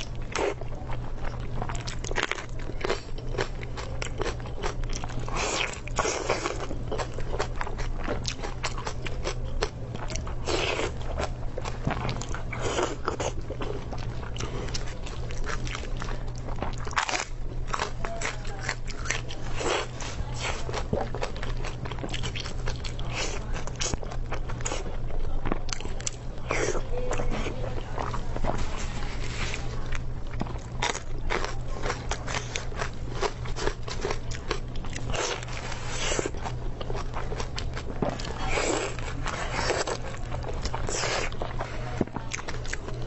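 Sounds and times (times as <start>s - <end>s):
crunching and wet chewing: 0.0s - 43.0s.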